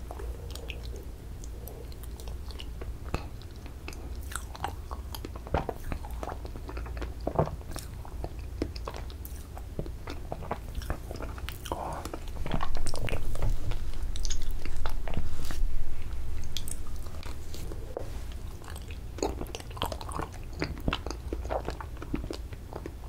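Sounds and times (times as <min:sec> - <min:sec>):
wet mouth eating sounds: 0:00.0 - 0:23.0.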